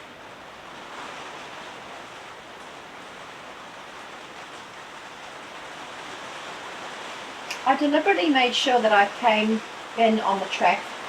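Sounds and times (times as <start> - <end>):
heavy rain: 0.0 - 11.0
river running in torrent: 0.0 - 11.0.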